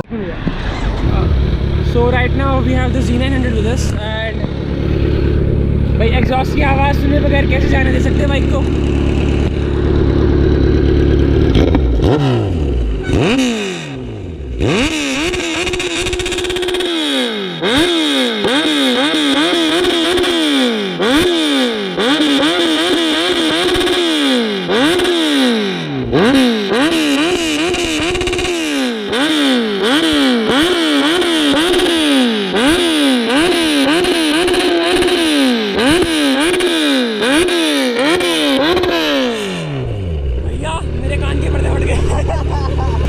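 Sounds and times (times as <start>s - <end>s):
motorcycle engine revving: 0.0s - 43.0s
motorcycle throttle blips: 0.0s - 43.0s.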